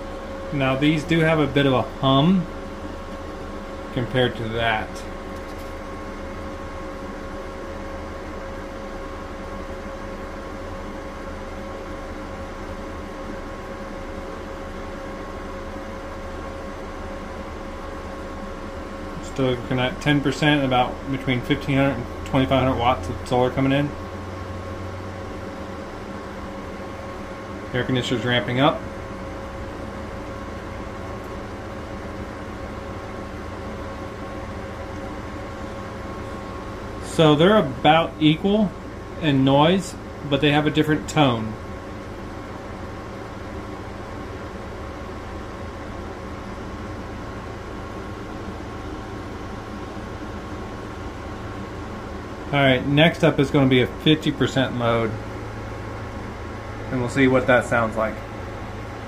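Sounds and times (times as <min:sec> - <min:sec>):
cooling fans running: 0:00.0 - 0:59.0
faint steady whine: 0:00.0 - 0:59.0
inverter hum: 0:00.0 - 0:59.0
window air conditioner running: 0:00.0 - 0:59.0.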